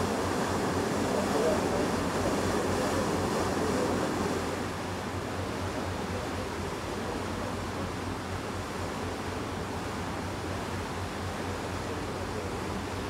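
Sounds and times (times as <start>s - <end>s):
water rushing at ship bow: 0.0s - 13.0s.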